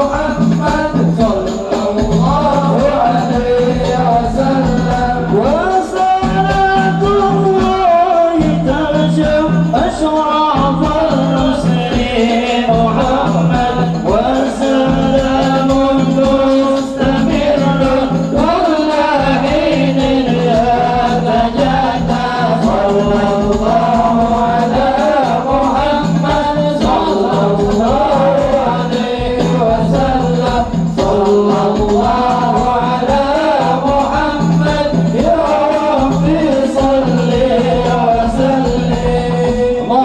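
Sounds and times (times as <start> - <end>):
hand drums beating: 0.0 - 40.0
man singing into a microphone: 0.0 - 40.0
men singing together: 0.0 - 40.0.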